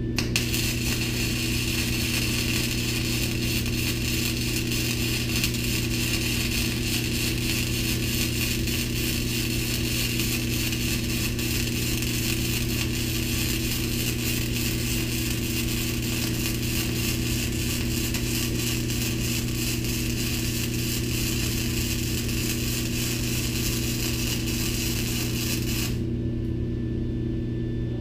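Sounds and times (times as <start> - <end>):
welder arc crackling hiss: 0.0 - 26.1
low hum: 0.0 - 28.0.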